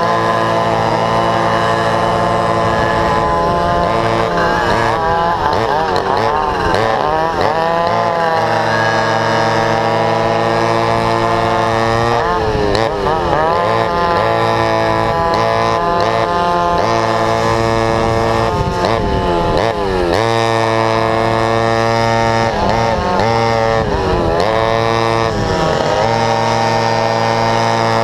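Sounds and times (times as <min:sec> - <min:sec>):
engine notes sweeping in pitch: 0:00.0 - 0:28.0
go-kart engines running: 0:00.0 - 0:28.0.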